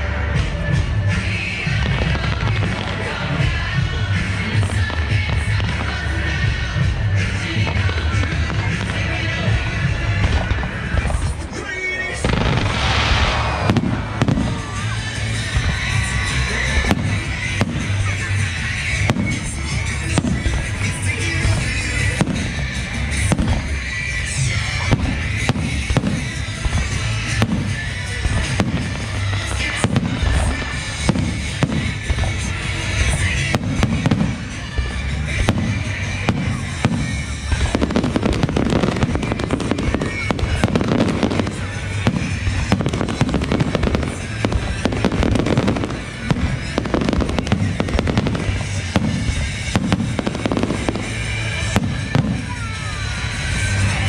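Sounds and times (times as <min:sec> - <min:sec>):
firework bangs and crackling: 0:00.0 - 0:54.0
music playing: 0:00.0 - 0:54.0.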